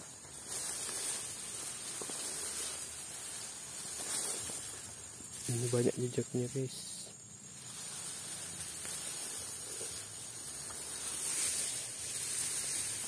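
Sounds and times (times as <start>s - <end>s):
rice plants rustling: 0.0s - 13.0s
steady high hiss: 0.0s - 13.0s.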